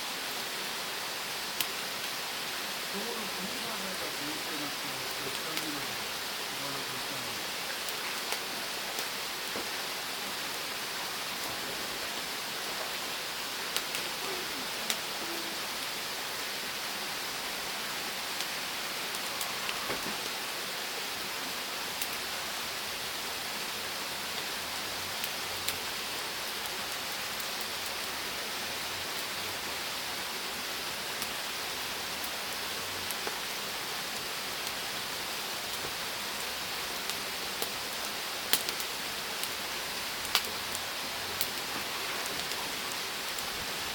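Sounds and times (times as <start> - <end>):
charcoal fire crackling: 0.5 - 43.9
meat sizzling on a grill: 1.4 - 43.9.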